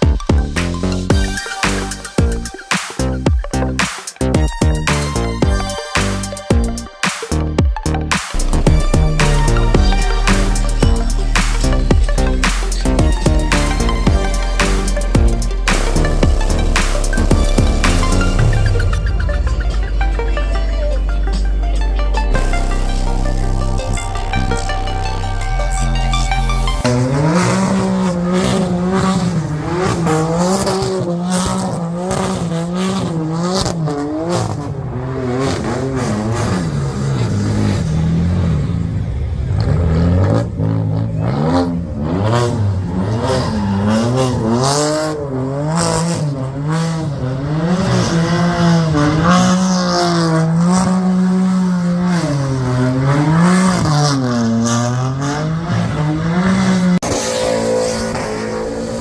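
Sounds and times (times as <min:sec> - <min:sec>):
car engine revving high: 0:00.0 - 0:59.0.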